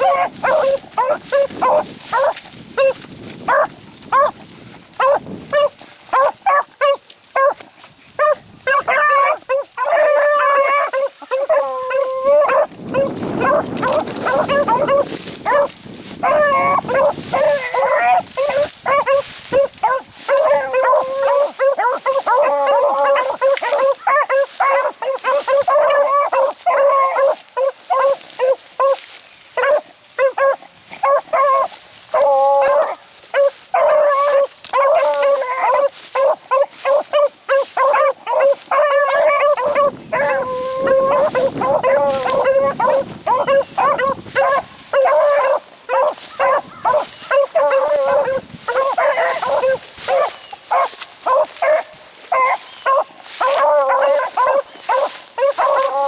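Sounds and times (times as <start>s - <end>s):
dogs baying and howling: 0.0s - 56.0s.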